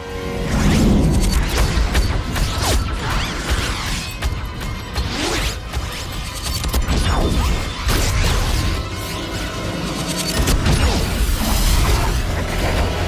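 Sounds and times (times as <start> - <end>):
dramatic film score: 0.0 - 13.0.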